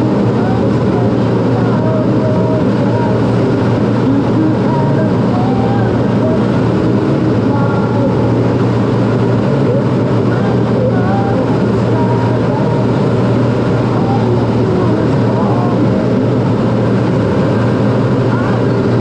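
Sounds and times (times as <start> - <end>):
jet engine roar: 0.0 - 19.0
rushing airflow: 0.0 - 19.0.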